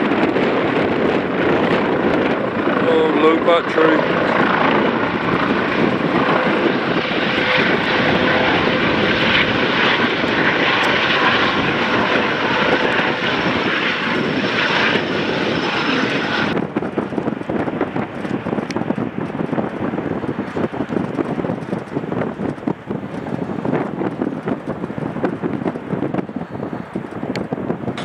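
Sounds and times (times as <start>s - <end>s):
helicopter engines and rotor: 0.0s - 28.0s
wind noise on microphone: 0.0s - 28.0s.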